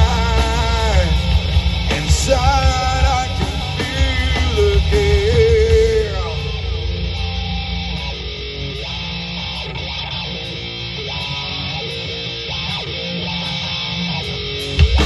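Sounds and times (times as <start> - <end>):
distorted guitar and bass backing: 0.0 - 15.0
electric guitar melody: 0.0 - 15.0.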